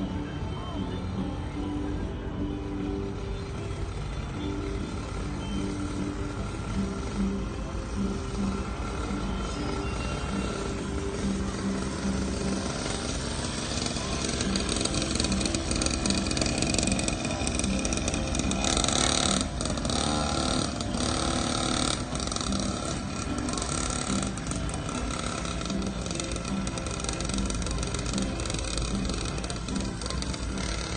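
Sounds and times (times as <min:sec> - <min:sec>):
voices: 0:00.0 - 0:30.9
dirt bike engine running: 0:03.1 - 0:30.9.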